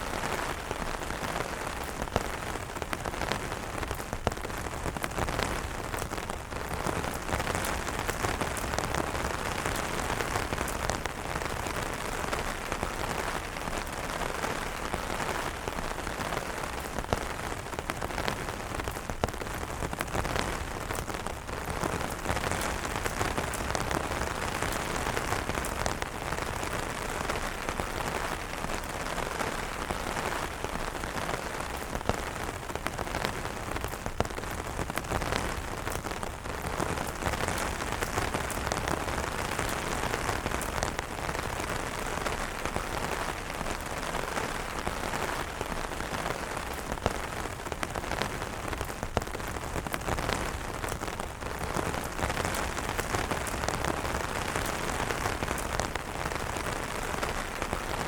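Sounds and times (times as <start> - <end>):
rain on umbrellas: 0.0 - 58.0.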